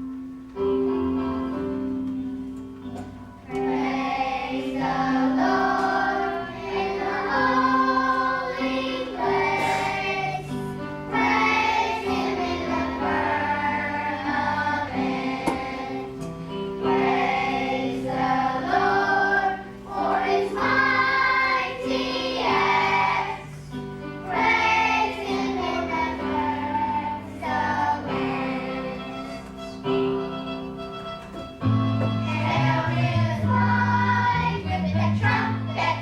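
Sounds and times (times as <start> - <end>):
instrumental accompaniment: 0.0 - 36.0
children's choir singing: 2.9 - 30.7, 31.4 - 36.0.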